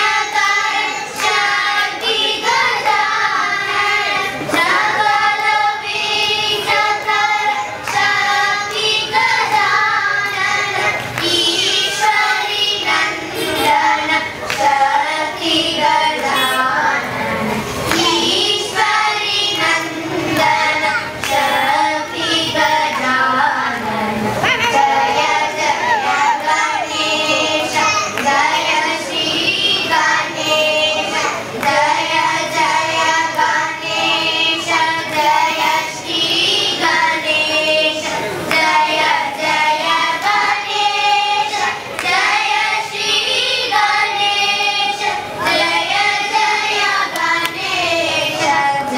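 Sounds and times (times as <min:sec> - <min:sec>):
girls singing together: 0:00.0 - 0:48.9.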